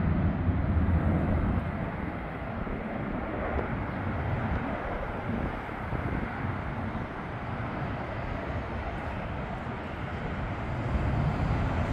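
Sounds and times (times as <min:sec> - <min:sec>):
jet engines climbing: 0:00.0 - 0:11.9.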